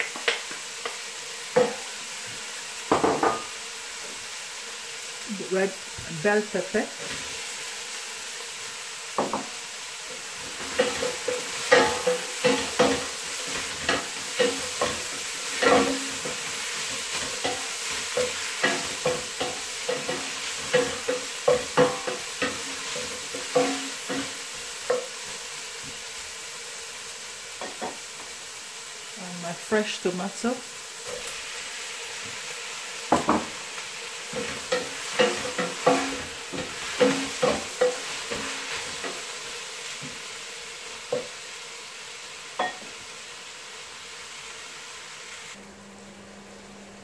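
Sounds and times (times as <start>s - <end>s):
vegetables sizzling in oil: 0.0s - 47.0s.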